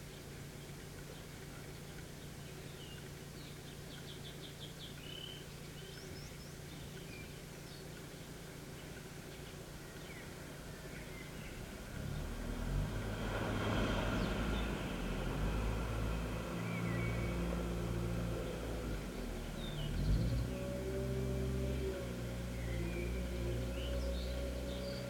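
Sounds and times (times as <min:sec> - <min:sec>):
birds chirping: 0:00.0 - 0:12.4, 0:16.1 - 0:21.0, 0:21.8 - 0:25.0
wheel loader diesel engine: 0:00.0 - 0:25.0.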